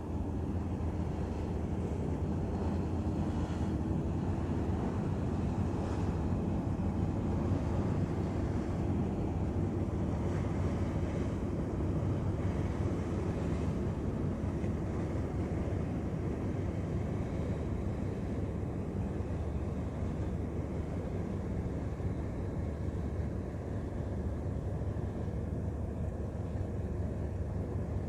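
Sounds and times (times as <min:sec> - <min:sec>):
ship engine rumbling: 0:00.0 - 0:28.0.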